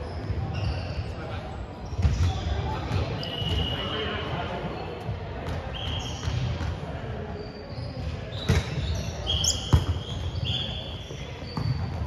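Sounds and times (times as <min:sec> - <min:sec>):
sneakers squeaking on court: 0:00.0 - 0:04.2, 0:04.9 - 0:12.0.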